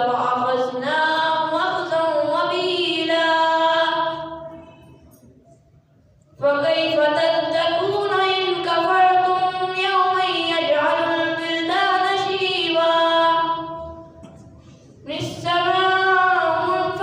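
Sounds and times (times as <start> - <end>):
boy reciting melodically: 0.0 - 5.0, 6.4 - 17.0.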